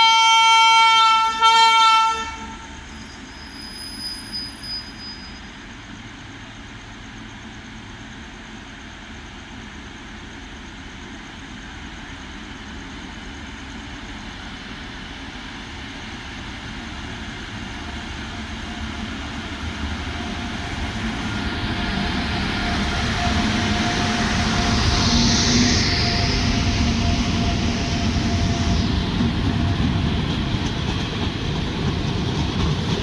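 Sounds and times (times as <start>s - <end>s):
electric locomotives rumbling: 0.0s - 33.0s.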